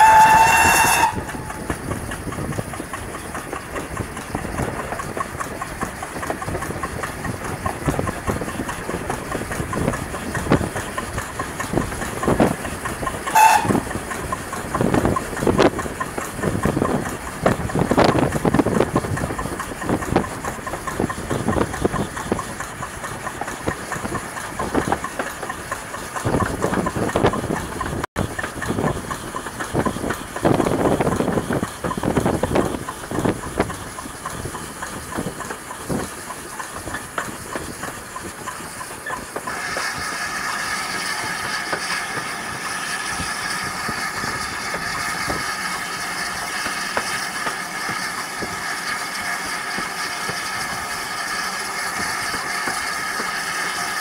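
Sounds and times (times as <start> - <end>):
steam locomotive exhaust beats: 0.0 - 54.0
wheel clatter: 0.0 - 54.0.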